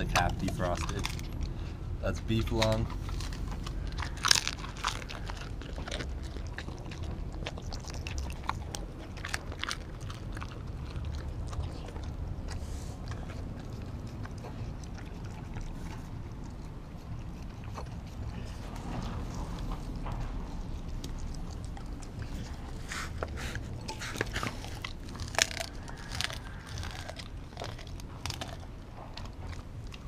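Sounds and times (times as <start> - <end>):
dog chewing with mouth clicks: 0.0 - 30.0.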